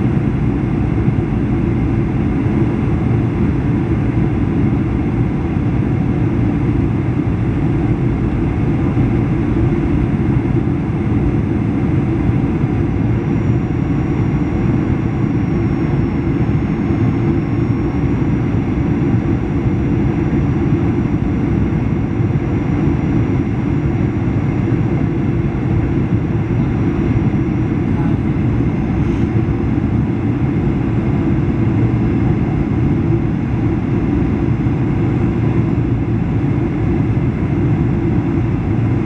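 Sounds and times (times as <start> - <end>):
airplane cabin engine rumble: 0.0 - 39.0
faint high fan whine: 0.0 - 39.0.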